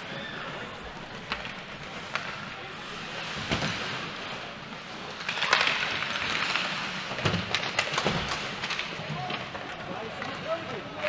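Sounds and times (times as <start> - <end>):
hockey sticks and puck clacking: 0.0 - 11.0.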